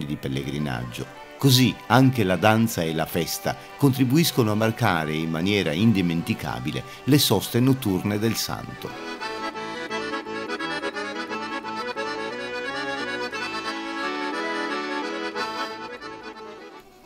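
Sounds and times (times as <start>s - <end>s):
accordion dance music: 0.0s - 17.0s.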